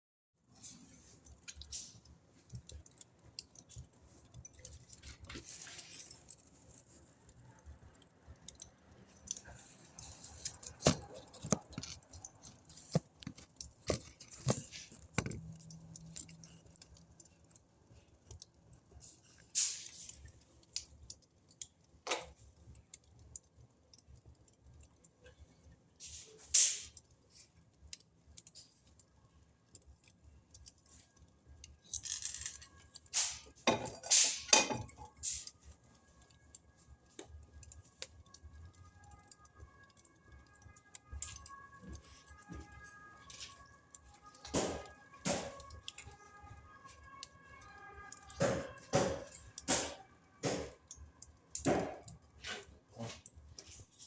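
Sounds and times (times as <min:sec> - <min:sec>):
wood fire crackling and popping: 0:00.4 - 0:54.0.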